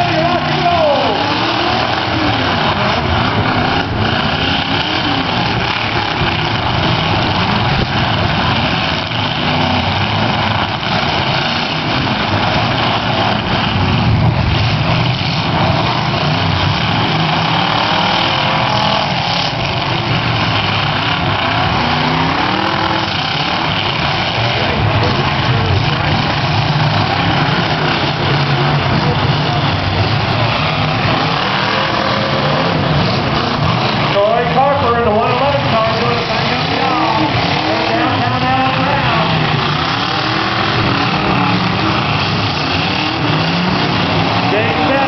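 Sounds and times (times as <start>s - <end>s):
car engines revving hard: 0.0s - 45.0s.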